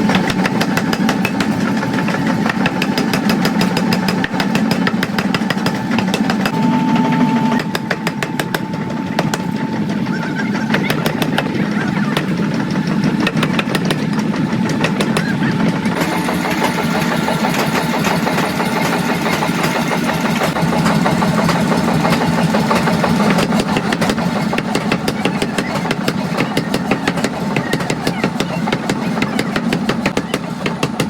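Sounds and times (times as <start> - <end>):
machinery hum: 0.0 - 30.9.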